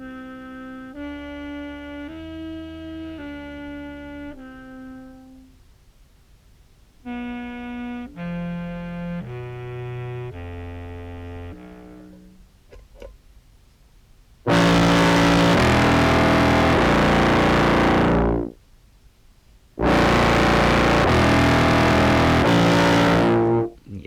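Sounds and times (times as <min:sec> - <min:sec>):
distorted contrabass clarinet: 0:00.0 - 0:05.6, 0:07.0 - 0:13.1, 0:14.5 - 0:18.6, 0:19.8 - 0:24.0.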